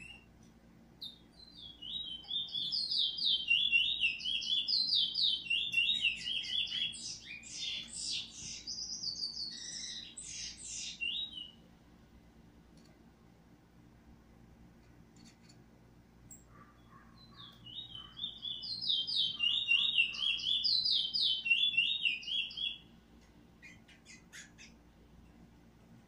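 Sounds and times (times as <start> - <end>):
songbird singing: 0.0 - 11.7, 16.2 - 25.5.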